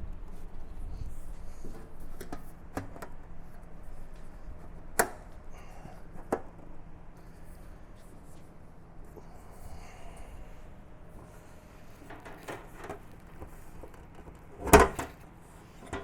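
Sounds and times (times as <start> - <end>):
low shop hum: 0.0 - 16.0.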